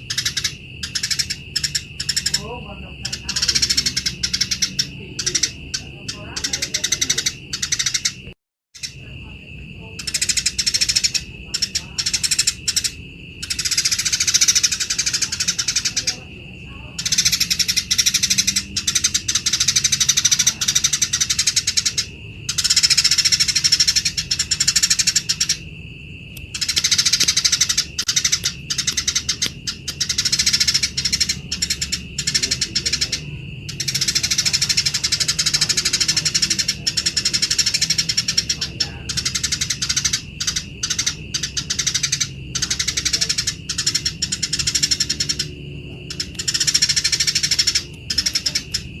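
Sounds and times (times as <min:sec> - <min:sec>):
sparrows chattering harshly: 0:00.0 - 0:49.0.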